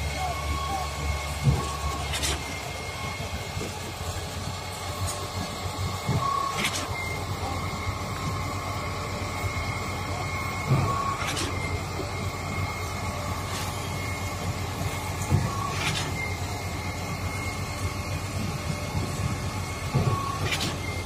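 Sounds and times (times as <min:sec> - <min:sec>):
concrete pump droning: 0:00.0 - 0:21.0.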